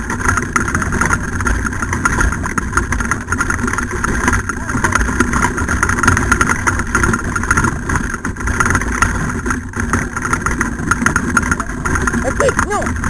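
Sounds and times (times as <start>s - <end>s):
sled cart rattling over dirt: 0.0s - 13.0s.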